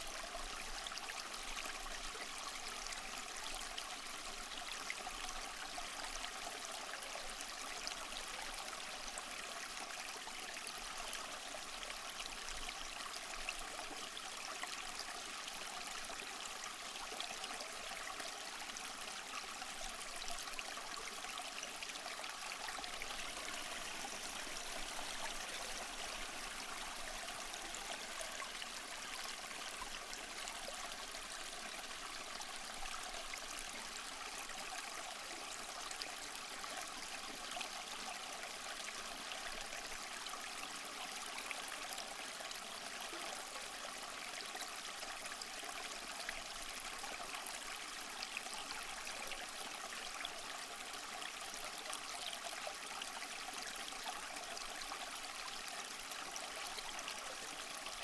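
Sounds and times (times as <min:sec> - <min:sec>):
small waterfall splashing over rocks: 0:00.0 - 0:58.0.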